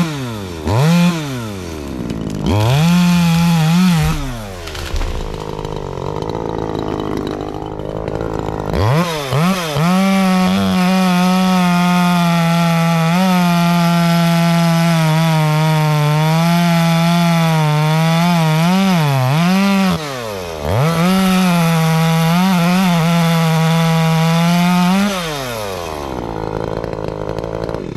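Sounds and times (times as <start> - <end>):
chainsaw cutting wood: 0.0 - 27.9
chainsaw idling and revving: 0.0 - 27.9.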